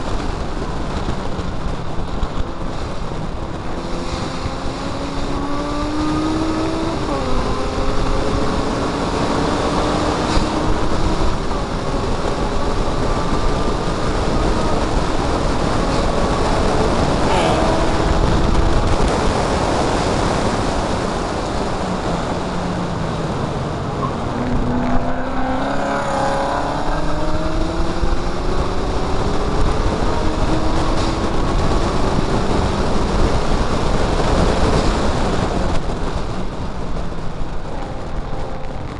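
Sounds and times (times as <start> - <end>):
car engine revving at racing speed: 0.0 - 38.9
wind rush on microphone: 0.0 - 38.9.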